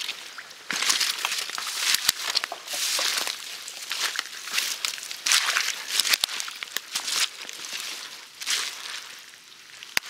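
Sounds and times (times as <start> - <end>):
footsteps through wet leaves: 0.0 - 10.0.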